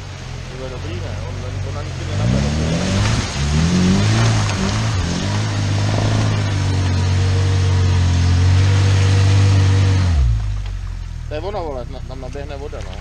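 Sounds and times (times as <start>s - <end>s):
car engine working hard: 0.0s - 13.0s.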